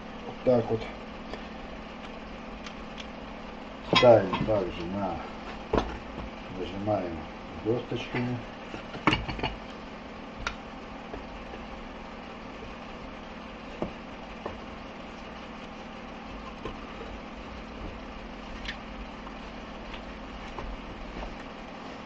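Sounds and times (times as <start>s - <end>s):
workshop hum: 0.0s - 22.0s.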